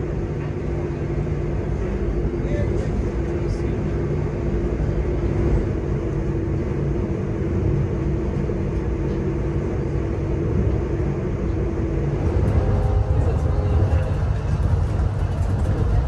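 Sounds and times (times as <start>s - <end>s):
constant hum: 0.0s - 16.0s
train low rumble: 0.0s - 16.0s.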